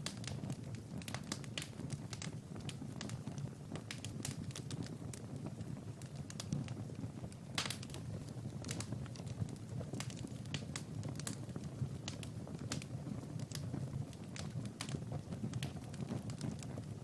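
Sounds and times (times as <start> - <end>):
low rumble of flames: 0.0 - 17.0
wood fire pops and snaps: 0.0 - 17.0.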